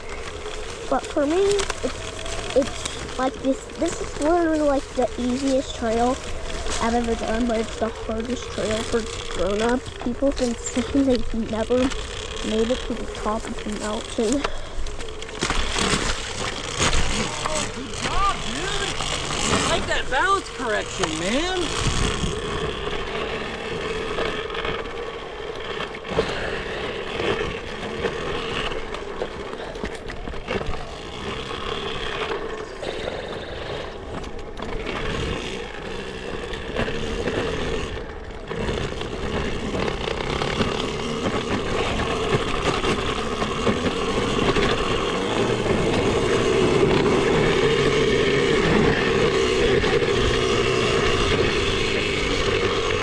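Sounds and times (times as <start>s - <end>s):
electric motor whine: 0.0s - 53.0s
tyres and frame rattling over rocks: 0.0s - 53.0s.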